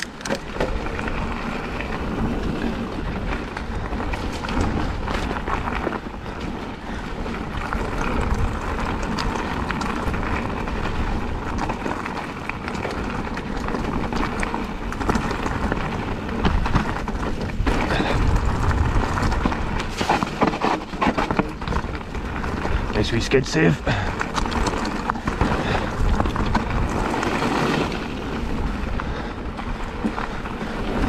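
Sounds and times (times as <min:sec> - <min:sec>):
bicycle tyres rolling on trail: 0:00.0 - 0:31.0
bike rattling: 0:00.0 - 0:31.0
wind rumble on microphone: 0:00.0 - 0:31.0.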